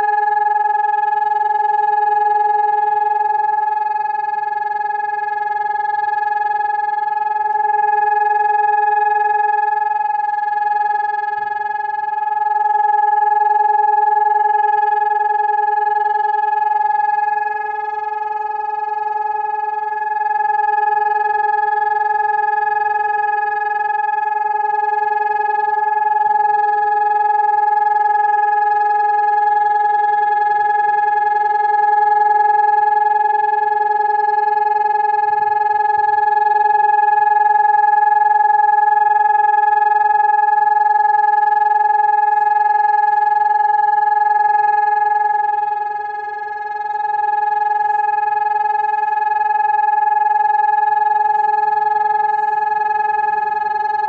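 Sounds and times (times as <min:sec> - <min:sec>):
electronic siren steady tone: 0:00.0 - 0:54.0.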